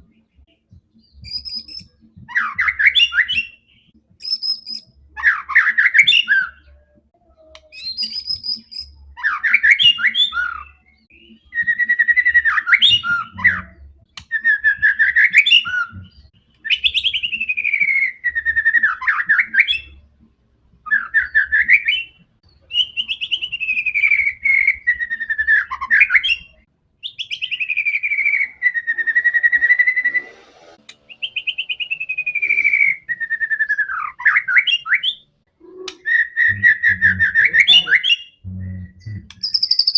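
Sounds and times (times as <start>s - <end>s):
bird singing whistles and trills: 0.0s - 20.0s, 20.8s - 39.9s.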